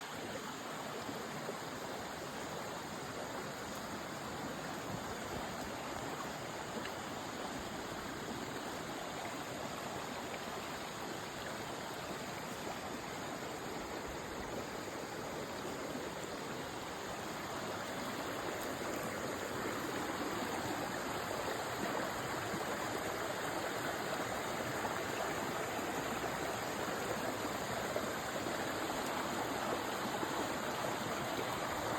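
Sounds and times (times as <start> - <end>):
water rushing: 0.0 - 31.9.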